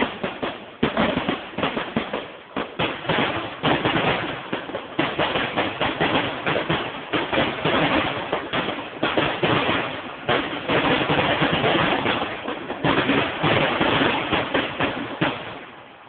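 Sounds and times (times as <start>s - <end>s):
firework bursts and crackle: 0.0s - 16.0s.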